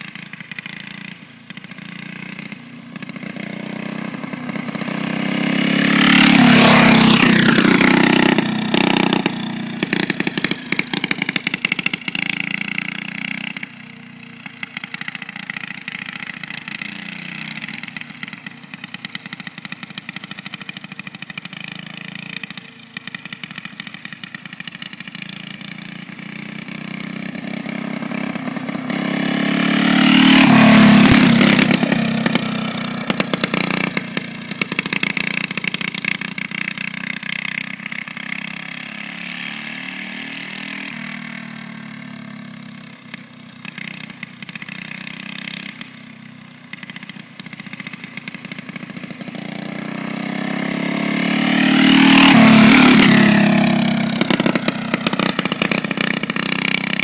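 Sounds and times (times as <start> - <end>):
go-kart engine passing: 0.0 - 57.0.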